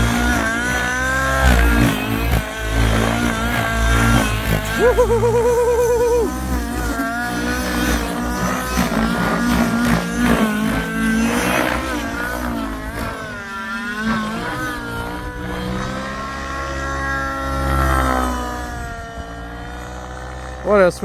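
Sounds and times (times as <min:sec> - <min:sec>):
model helicopter engine and rotor: 0:00.0 - 0:21.0.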